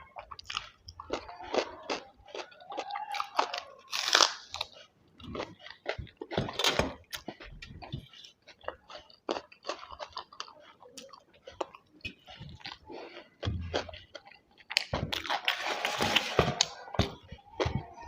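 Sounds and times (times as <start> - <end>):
wet chewing: 0.0 - 18.0
crunchy bites: 0.4 - 17.8.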